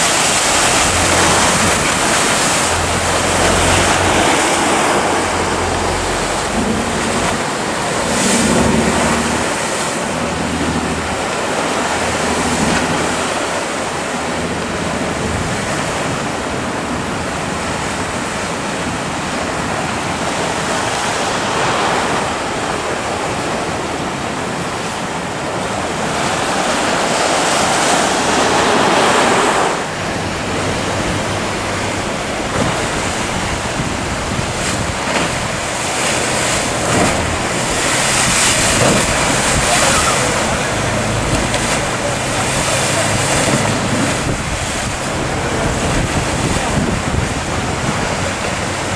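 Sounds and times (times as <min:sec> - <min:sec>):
low motor boat engine drone: 0:00.0 - 0:48.9
rough sea surf breaking: 0:00.0 - 0:48.9
wind buffeting microphone: 0:00.0 - 0:48.9.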